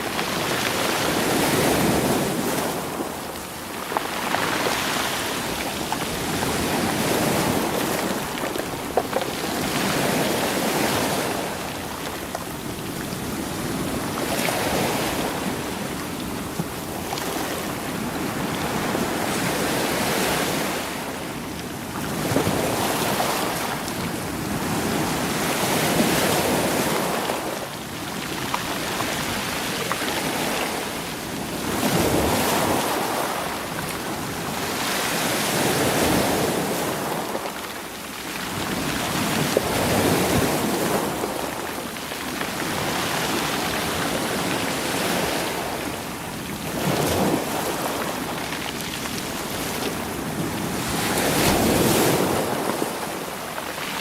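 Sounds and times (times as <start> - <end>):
sea waves washing over rocks: 0.0 - 54.0.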